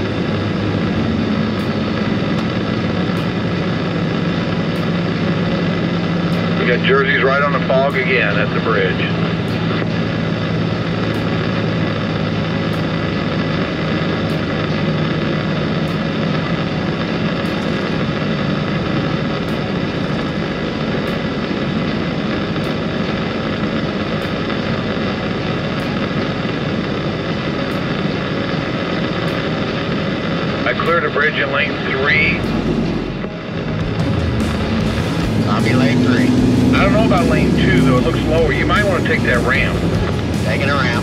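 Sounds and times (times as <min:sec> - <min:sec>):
truck engine drone: 0:00.0 - 0:41.0.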